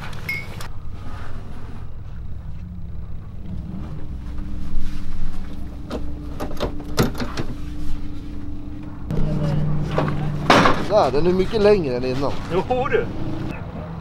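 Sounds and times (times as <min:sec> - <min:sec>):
engine drone: 0:00.0 - 0:14.0
low rumble: 0:00.7 - 0:13.6.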